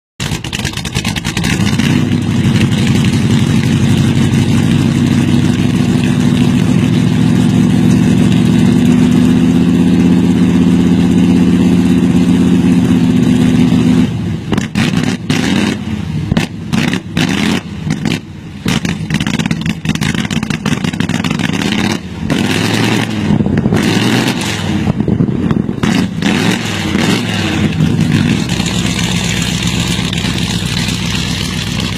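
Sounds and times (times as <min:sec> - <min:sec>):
engine revving: 0:00.2 - 0:31.9.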